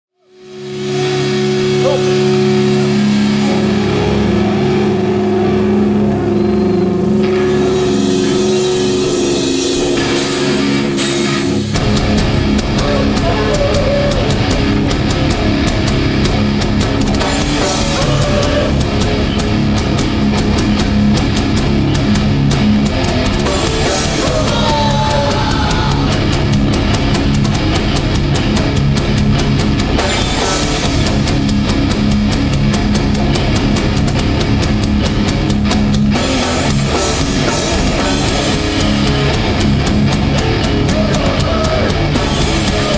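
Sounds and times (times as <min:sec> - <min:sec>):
distorted guitars: 0:00.2 - 0:42.9
hardcore band playing live: 0:00.3 - 0:42.9
drum kit: 0:00.4 - 0:05.9, 0:07.1 - 0:42.9.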